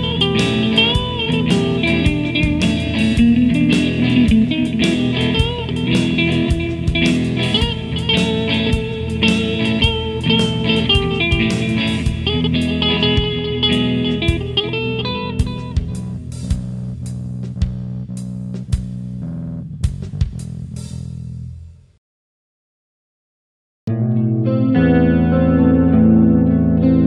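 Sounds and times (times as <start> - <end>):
blues guitar music: 0.0 - 20.8, 23.9 - 27.0
steady drum beat: 0.0 - 21.8.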